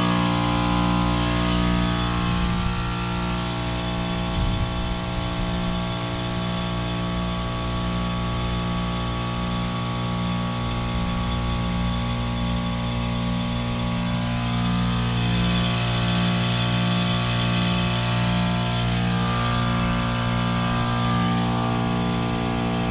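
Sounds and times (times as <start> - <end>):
air and refrigerant noise: 0.0 - 22.9
heat pump compressor hum: 0.0 - 22.9.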